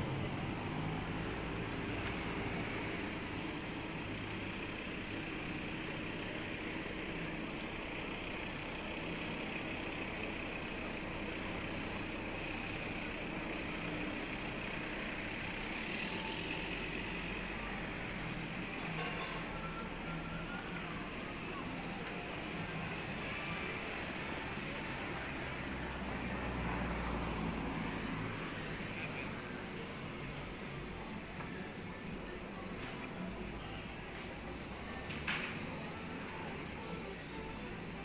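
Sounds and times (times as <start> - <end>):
vehicles passing on a street: 0.0 - 38.0.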